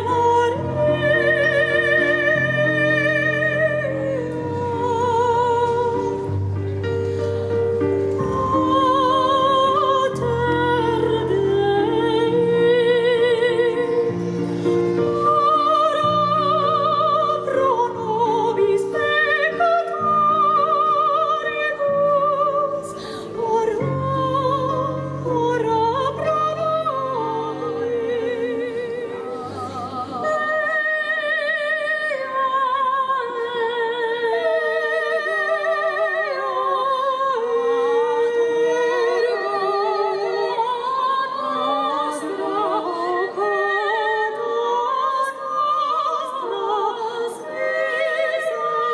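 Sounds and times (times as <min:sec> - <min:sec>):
operatic singing with vibrato: 0:00.0 - 0:06.8, 0:07.5 - 0:48.9.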